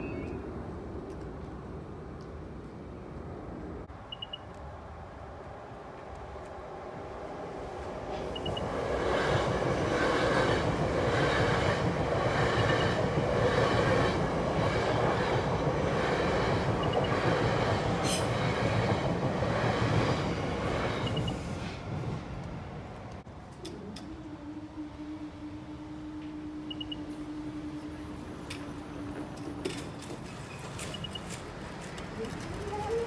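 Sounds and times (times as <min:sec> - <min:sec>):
train wheels rumbling on rail: 0:05.4 - 0:33.0.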